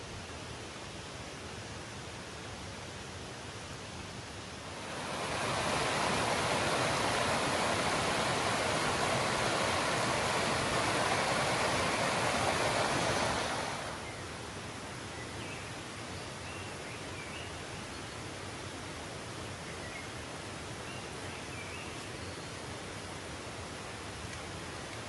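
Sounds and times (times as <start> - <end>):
flowing stream water: 0.0 - 25.0.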